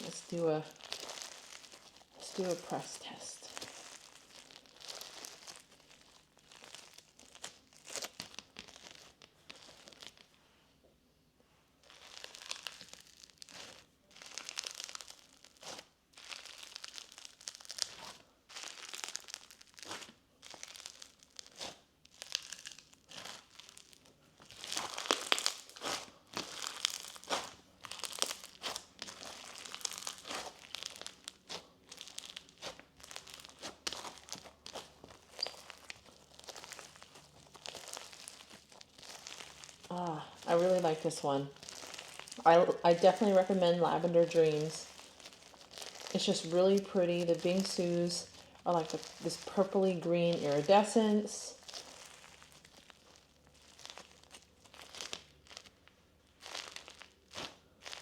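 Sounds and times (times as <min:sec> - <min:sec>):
slime beads crackling and popping: 0:00.0 - 0:10.3, 0:11.8 - 0:58.0.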